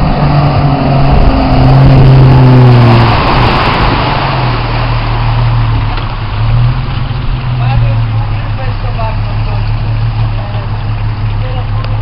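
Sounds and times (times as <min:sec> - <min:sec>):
suv engine running under load: 0:00.0 - 0:12.0.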